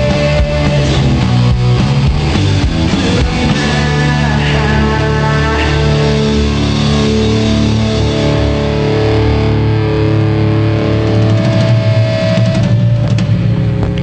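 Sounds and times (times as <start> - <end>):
punk rock band playing: 0.0 - 14.0.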